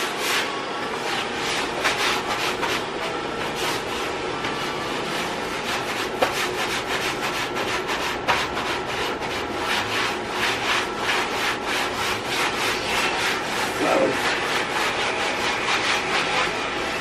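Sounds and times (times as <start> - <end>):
scrub brush scrubbing wet surface: 0.0 - 17.0.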